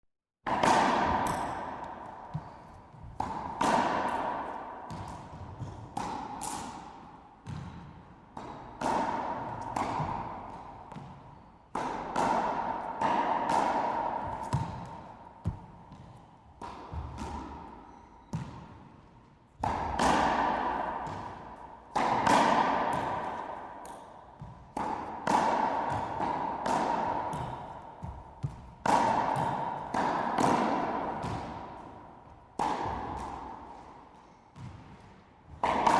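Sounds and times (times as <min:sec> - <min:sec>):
racquetball hits echoing: 0:00.5 - 0:35.9.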